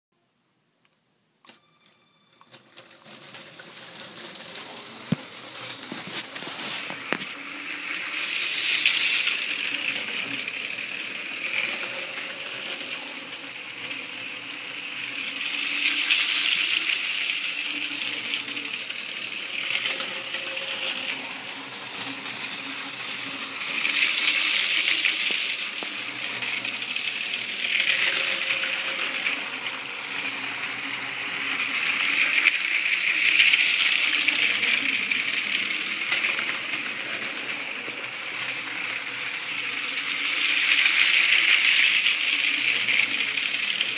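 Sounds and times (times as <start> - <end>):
toy train motor whirring and rattling: 1.5 - 43.9.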